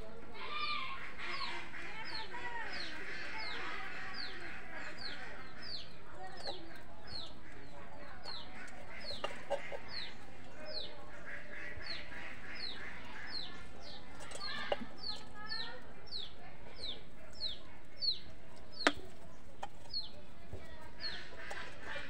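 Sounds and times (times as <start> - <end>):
pigeons cooing: 0.0 - 22.0
bird chirping: 0.6 - 22.0.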